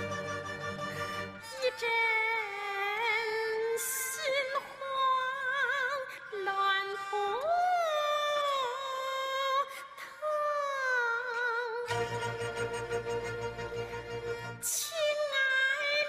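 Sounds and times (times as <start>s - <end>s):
woman singing opera: 0.0s - 12.3s, 14.5s - 16.0s.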